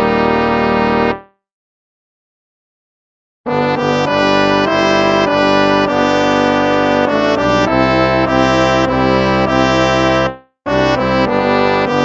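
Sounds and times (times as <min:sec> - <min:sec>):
instrumental hymn chords: 0:00.0 - 0:01.3, 0:03.5 - 0:12.0.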